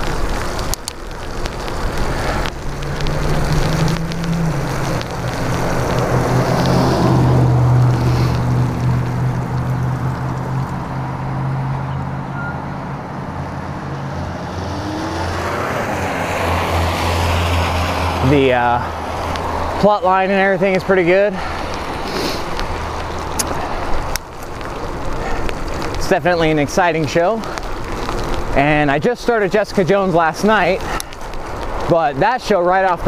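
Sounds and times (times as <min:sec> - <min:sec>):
bike tyres hissing on wet pavement: 0:00.0 - 0:11.5, 0:14.0 - 0:33.0.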